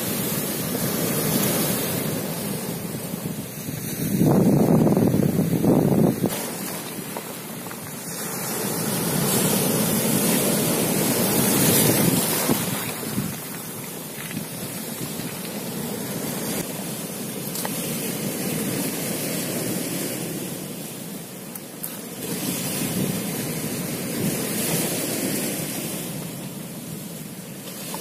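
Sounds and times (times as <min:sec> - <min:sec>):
sea surf over rocks and pebbles: 0:00.0 - 0:28.0.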